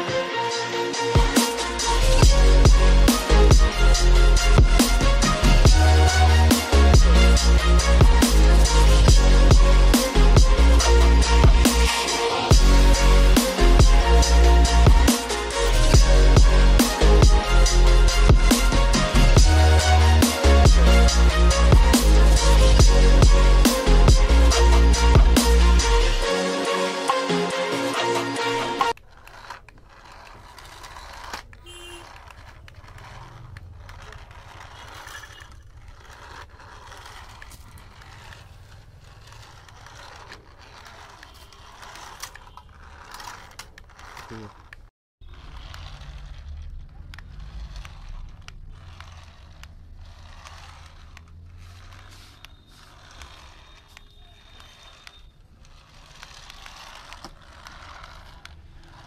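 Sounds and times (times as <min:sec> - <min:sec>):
toy car electric motor whirring: 0:00.4 - 0:59.0.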